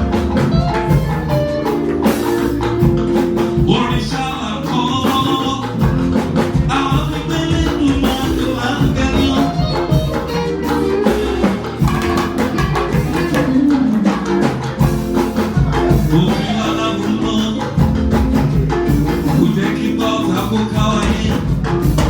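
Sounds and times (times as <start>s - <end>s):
drums and hand percussion: 0.0s - 22.0s.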